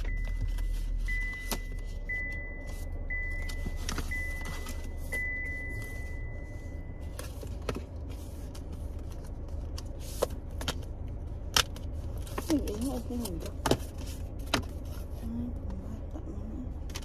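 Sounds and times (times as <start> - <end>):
car cabin low hum: 0.0 - 17.0.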